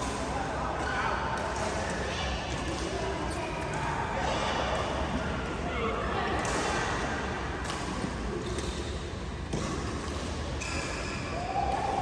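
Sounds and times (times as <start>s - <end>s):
court background noise: 0.0s - 12.0s.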